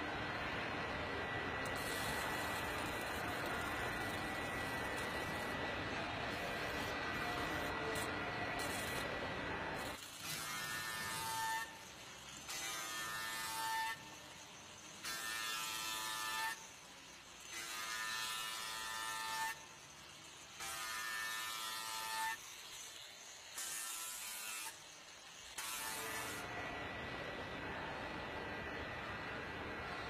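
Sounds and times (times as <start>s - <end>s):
arc welding buzzing hiss: 1.1s - 27.3s.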